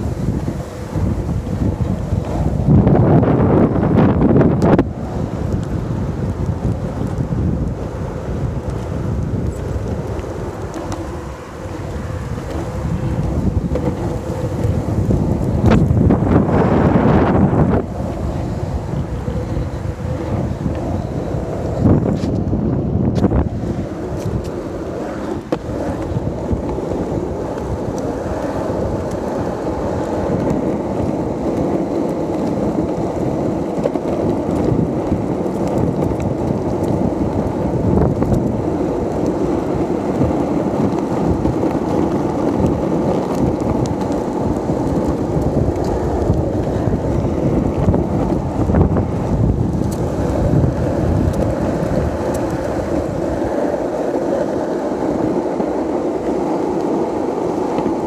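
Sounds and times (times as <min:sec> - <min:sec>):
skateboard wheels rolling on asphalt: 0:00.0 - 0:58.0
wind buffeting microphone: 0:00.0 - 0:58.0.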